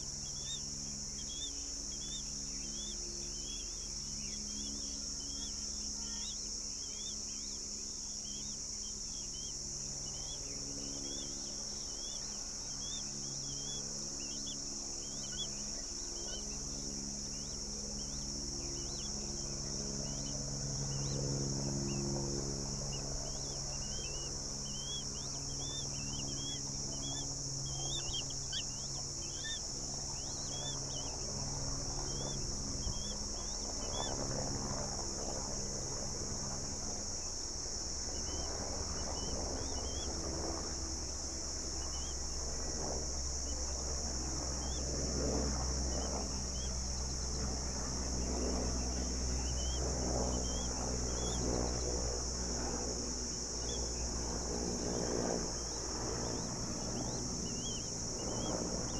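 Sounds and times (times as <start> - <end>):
high insect chorus: 0.0 - 58.9
low hum: 0.0 - 58.9.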